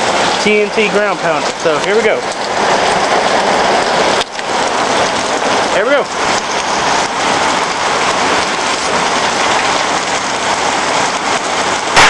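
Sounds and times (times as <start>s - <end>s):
rain falling on ground: 0.0s - 12.0s.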